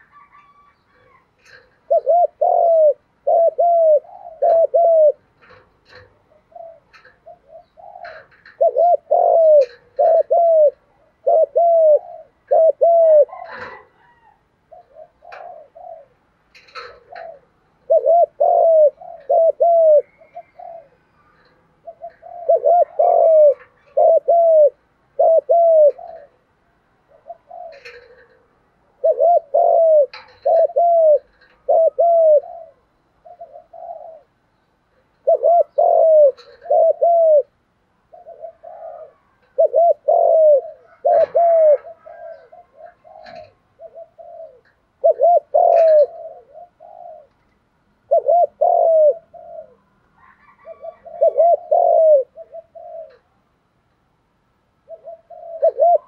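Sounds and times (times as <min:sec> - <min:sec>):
dove cooing: 0:00.0 - 0:53.5, 0:54.8 - 0:56.0.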